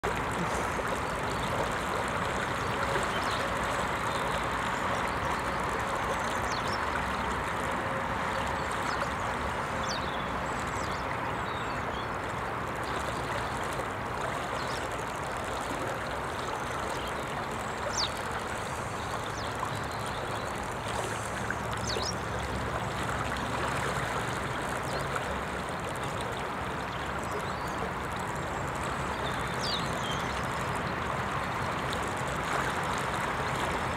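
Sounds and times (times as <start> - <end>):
river flowing over gravel: 0.0 - 33.9.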